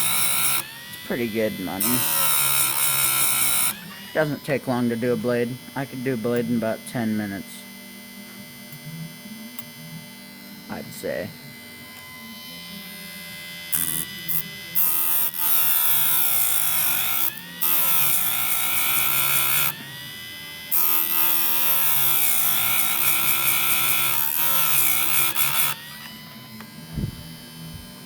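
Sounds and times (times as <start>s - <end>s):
chain sharpener grinding: 0.0s - 9.0s, 11.6s - 28.0s.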